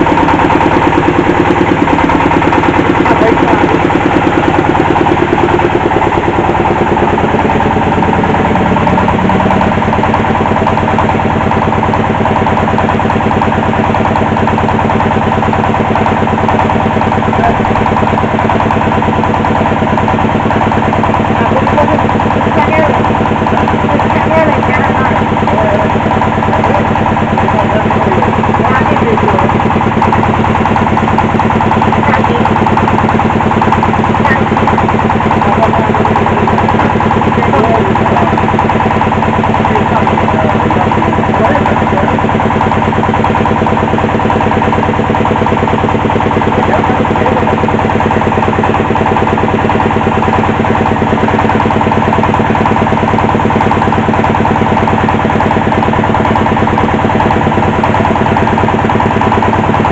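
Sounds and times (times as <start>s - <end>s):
drilling rig engine droning: 0.0s - 59.9s.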